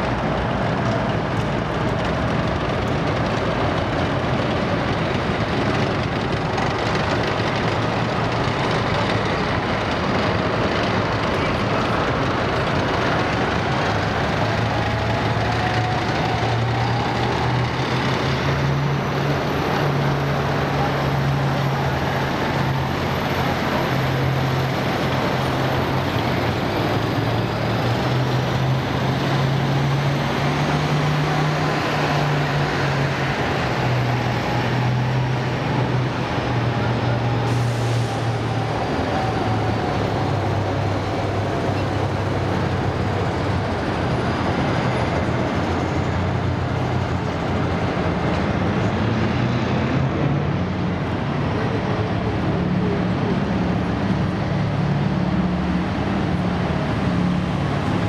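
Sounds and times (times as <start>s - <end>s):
tank driving away: 0.0s - 58.0s
truck diesel engine drone: 0.0s - 58.0s.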